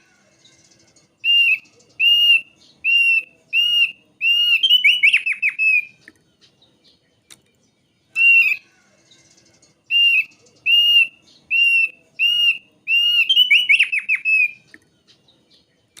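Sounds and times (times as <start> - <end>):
bird singing whistled notes: 0.0 - 16.0.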